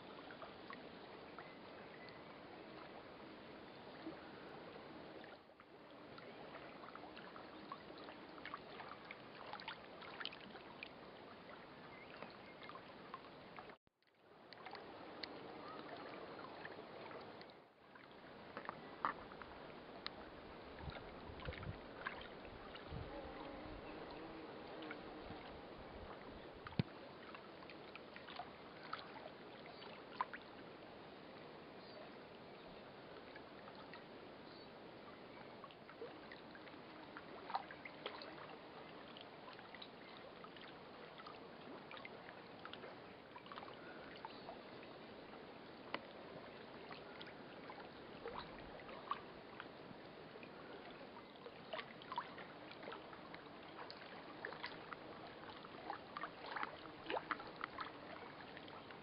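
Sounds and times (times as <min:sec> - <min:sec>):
small waves lapping: 0:00.0 - 0:59.0.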